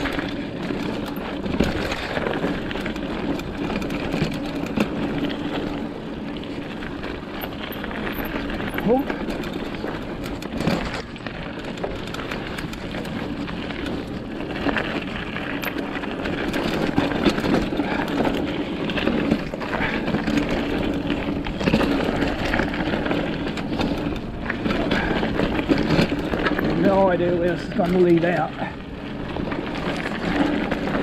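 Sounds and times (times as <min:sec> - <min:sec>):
bike knocking and rattling: 0:00.0 - 0:31.0
bike tyres crunching on dirt: 0:00.0 - 0:31.0
steady low rumble: 0:00.0 - 0:31.0.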